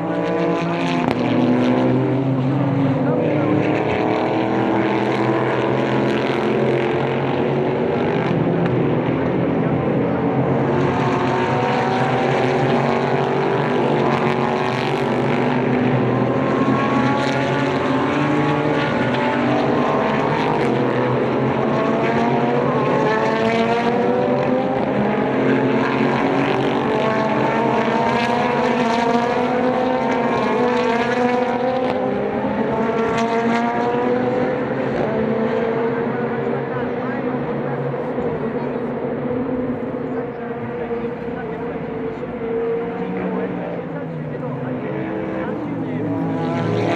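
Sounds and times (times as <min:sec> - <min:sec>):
race car engines accelerating: 0:00.0 - 0:46.9.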